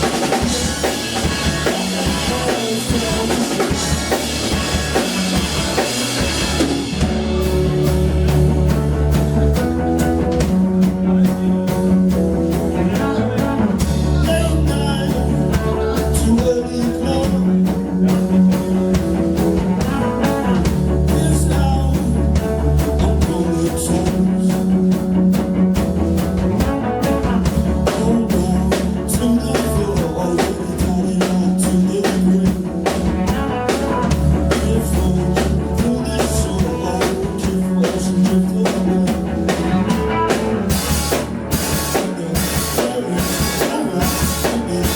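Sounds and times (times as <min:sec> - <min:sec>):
rock band playing: 0:00.0 - 0:44.9.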